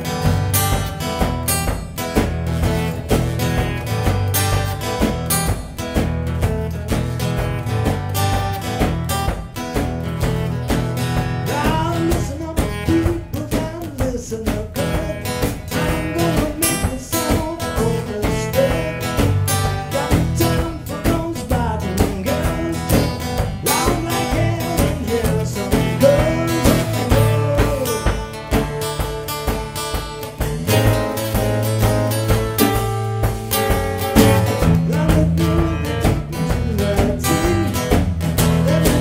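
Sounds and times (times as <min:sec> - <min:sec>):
blues-rock band playing: 0:00.0 - 0:39.0.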